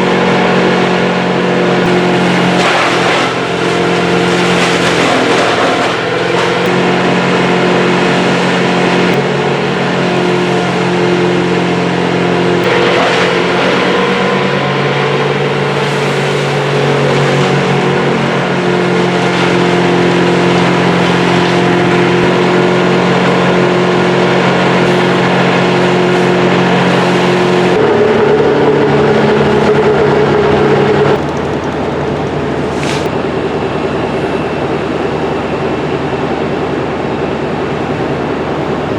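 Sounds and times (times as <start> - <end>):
machinery engine running: 0.0 - 38.9.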